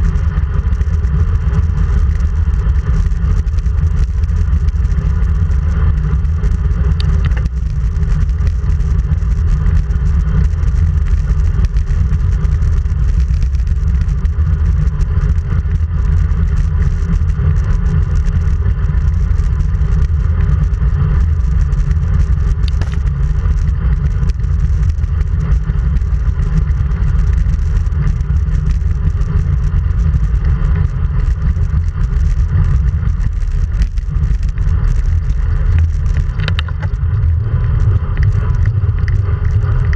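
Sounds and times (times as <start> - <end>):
road noise: 0.0 - 39.9
wind rumble on microphone: 0.0 - 39.9.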